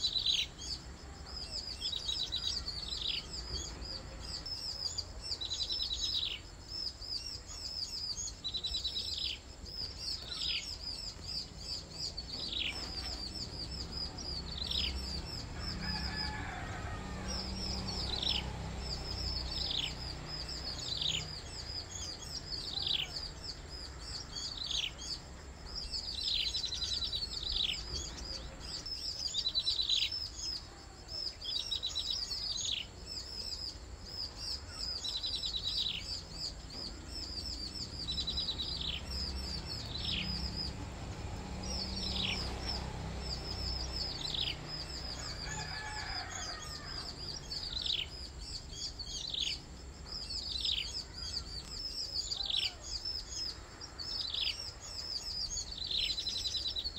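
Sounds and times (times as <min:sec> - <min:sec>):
small bird calling: 0:00.0 - 0:56.9.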